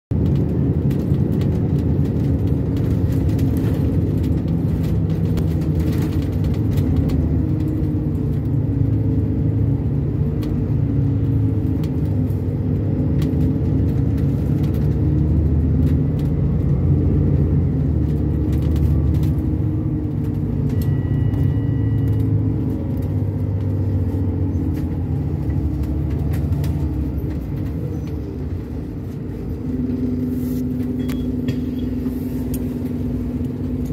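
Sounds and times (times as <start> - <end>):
bus engine: 0.1 - 33.9
road rumble: 0.1 - 33.9.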